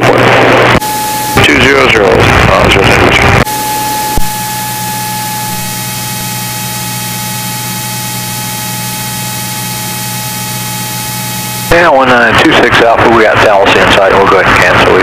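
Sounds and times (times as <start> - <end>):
steady tone: 0.0 - 14.9
radio hiss and hum: 0.0 - 15.0.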